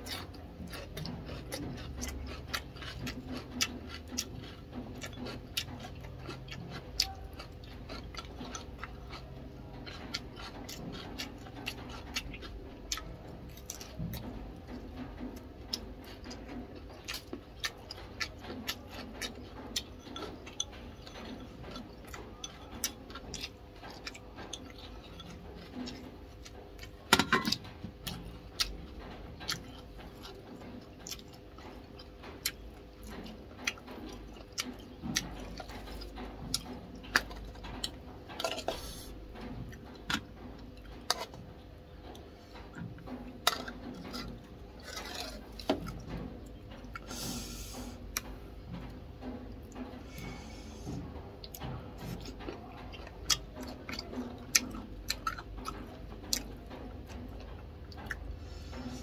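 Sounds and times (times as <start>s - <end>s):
chewing and mouth smacking: 0.0s - 59.0s.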